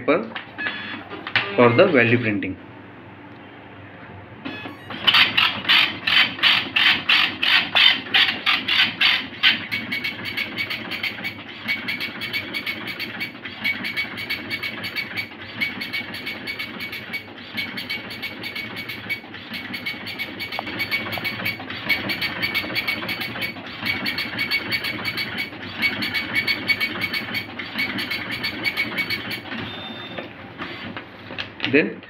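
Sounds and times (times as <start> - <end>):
dot-matrix printer printing: 0.5 - 2.2, 4.4 - 31.0.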